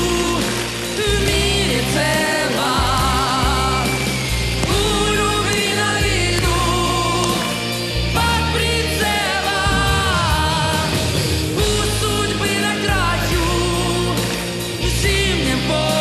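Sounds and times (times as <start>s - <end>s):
woman singing pop ballad: 0.0s - 7.6s, 8.2s - 16.0s
loud backing track: 0.0s - 16.0s.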